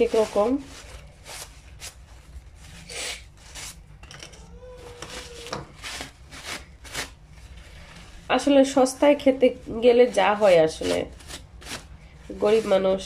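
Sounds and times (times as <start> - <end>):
paper rubbing on bark sticks: 0.0 - 3.8, 4.9 - 8.9, 9.7 - 13.0.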